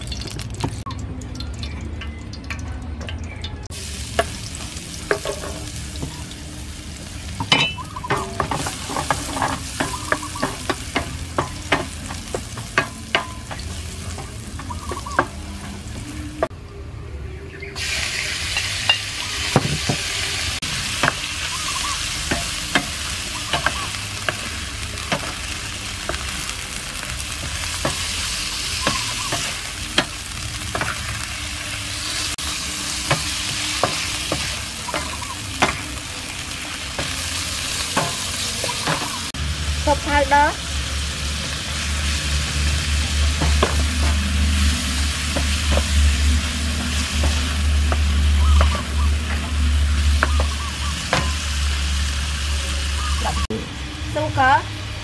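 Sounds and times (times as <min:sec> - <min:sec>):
garlic and chicken sizzling: 0:00.0 - 0:16.5, 0:17.7 - 0:55.0.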